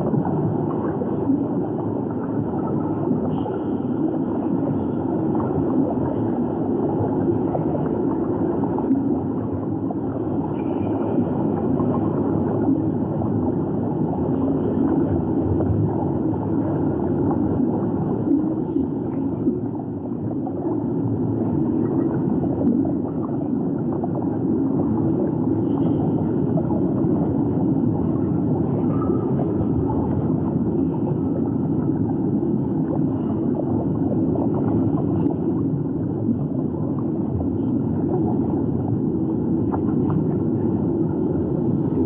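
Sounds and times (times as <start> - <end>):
underwater rumble of moving water: 0.0 - 42.0.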